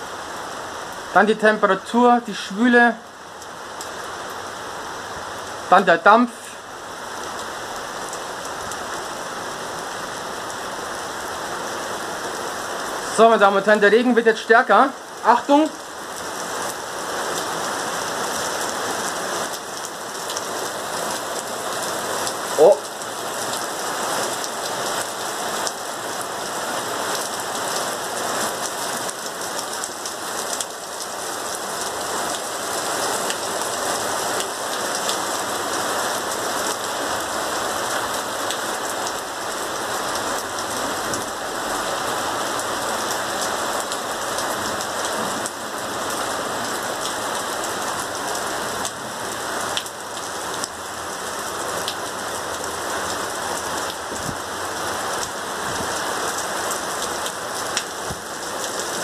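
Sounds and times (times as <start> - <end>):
heavy rain on paving stones: 0.0 - 59.0.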